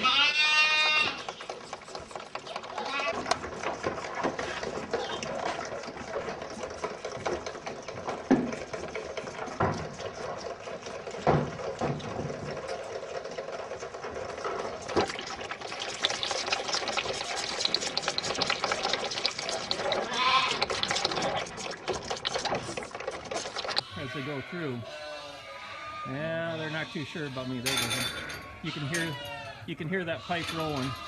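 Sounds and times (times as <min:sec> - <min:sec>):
calves bawling: 0:00.0 - 0:31.0.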